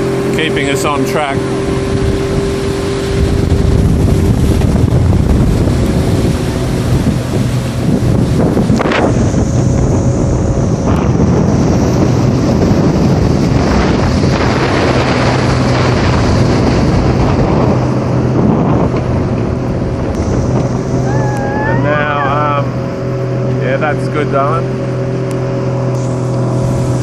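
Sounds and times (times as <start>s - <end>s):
motorboat engine running: 0.0s - 27.0s
water rushing past hull: 0.0s - 27.0s
wind buffeting microphone: 0.0s - 27.0s.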